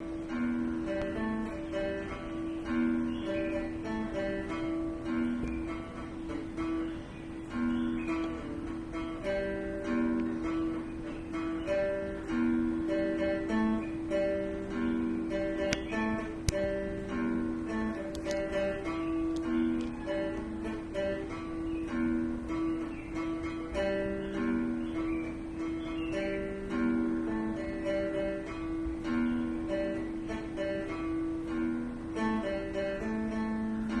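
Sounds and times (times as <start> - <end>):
acoustic guitar music: 0.0 - 34.0.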